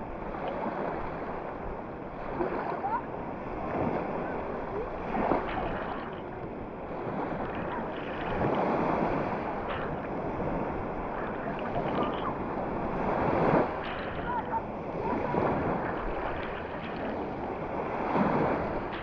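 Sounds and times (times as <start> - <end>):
small waves washing on sand: 0.0 - 19.0.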